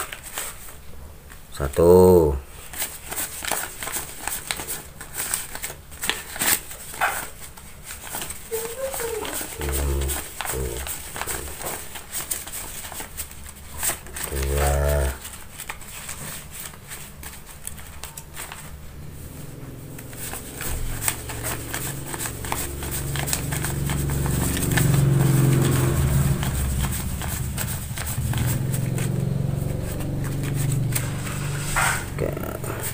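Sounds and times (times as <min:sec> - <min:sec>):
banknotes rustling and flicking: 0:00.0 - 0:32.9.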